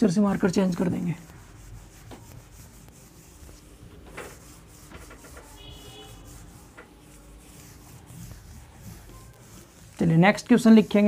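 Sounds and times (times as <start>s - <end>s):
duster rubbing on whiteboard: 0.0s - 11.0s.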